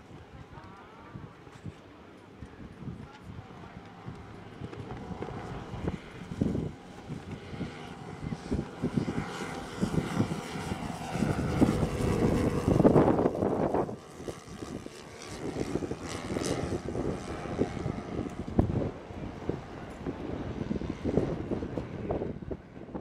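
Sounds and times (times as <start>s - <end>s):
model airplane engines droning: 0.0s - 23.0s
wind buffeting microphone: 0.0s - 23.0s.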